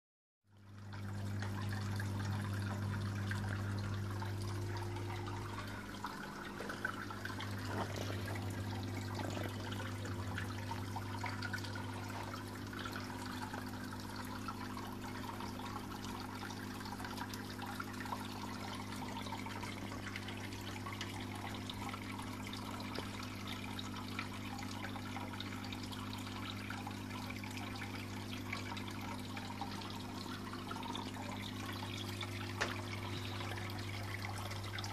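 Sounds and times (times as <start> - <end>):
pump humming: 0.5 - 34.9
water trickling into pond: 0.5 - 34.9.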